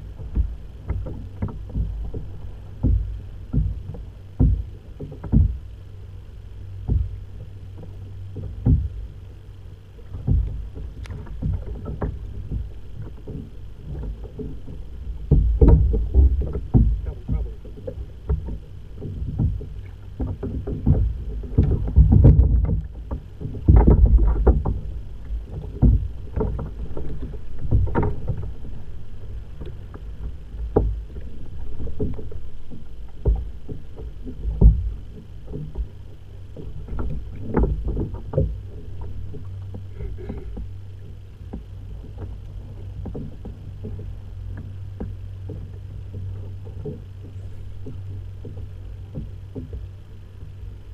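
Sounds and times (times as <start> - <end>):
steady low rumble: 0.0 - 50.9
waves slapping against kayak hull: 0.0 - 50.9.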